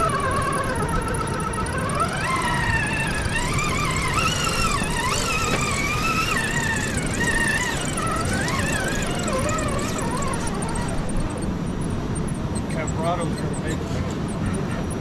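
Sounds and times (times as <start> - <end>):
electric motor and gears whining: 0.0 - 15.0
low rumble of wind: 0.0 - 15.0.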